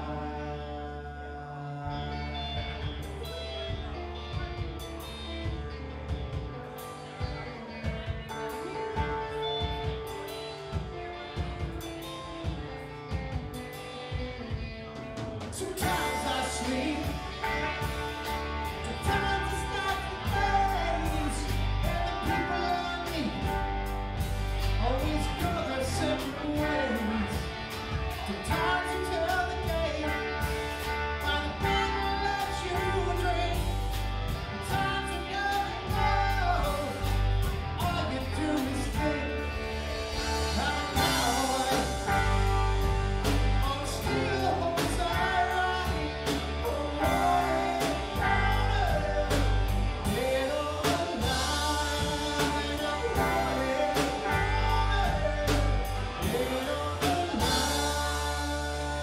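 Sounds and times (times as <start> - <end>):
person singing: 0.0 - 24.0, 24.6 - 59.0
electric guitar: 0.0 - 59.0.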